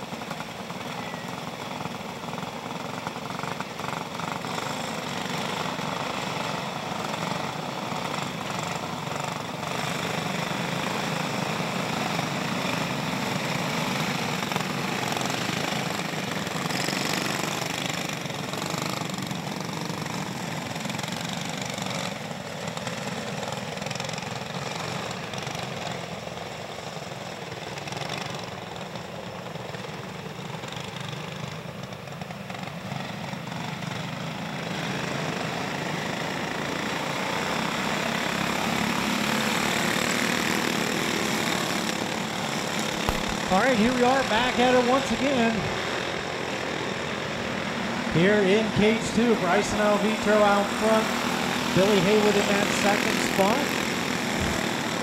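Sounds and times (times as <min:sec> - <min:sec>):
go-kart engines droning: 0:00.0 - 0:55.0.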